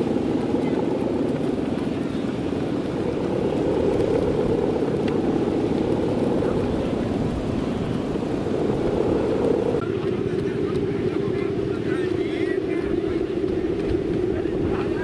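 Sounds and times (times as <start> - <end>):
kite humming bow droning: 0.0 - 15.0.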